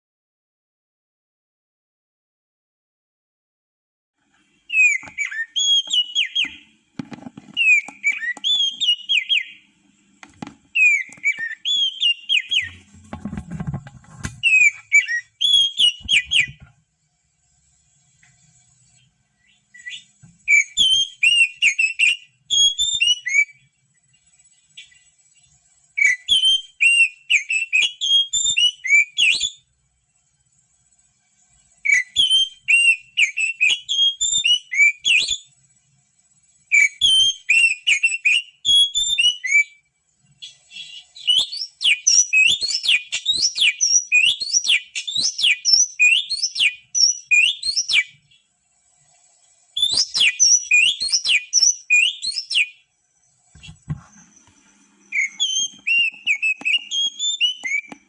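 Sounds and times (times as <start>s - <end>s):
bird whistled song: 4.7s - 6.8s, 7.4s - 9.7s, 10.4s - 16.7s, 17.5s - 30.4s, 31.3s - 58.0s.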